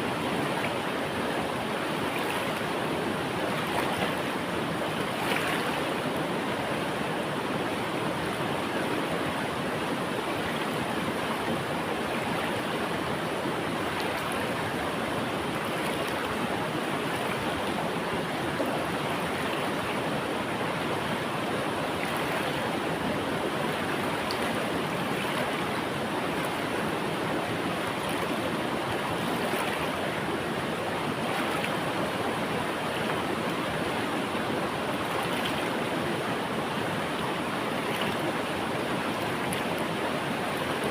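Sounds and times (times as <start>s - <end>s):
river water flowing and splashing: 0.0s - 40.9s.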